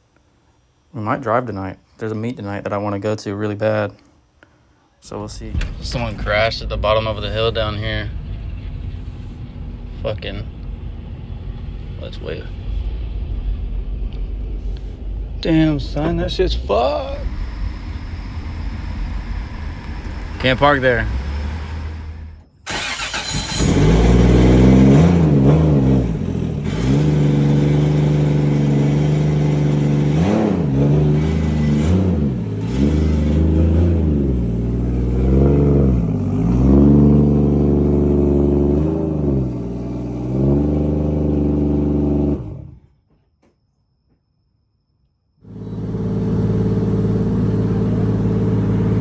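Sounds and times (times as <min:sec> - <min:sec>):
car engine revving: 0:05.1 - 0:42.8, 0:45.4 - 0:49.0.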